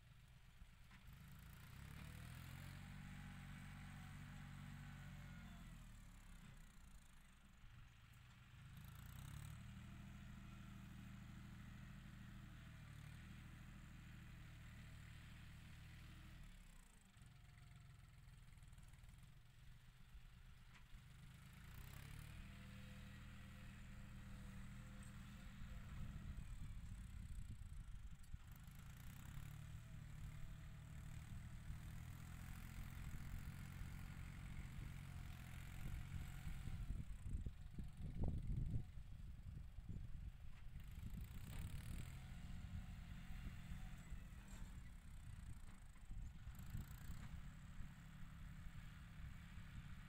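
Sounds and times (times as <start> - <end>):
faint tractor diesel engine: 0.0 - 50.0.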